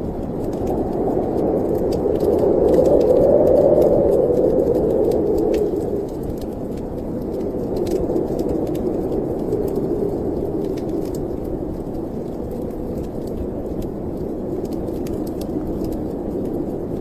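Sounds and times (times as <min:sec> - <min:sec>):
snowstorm wind gusts: 0:00.0 - 0:17.0
wood fire crackling: 0:00.0 - 0:17.0.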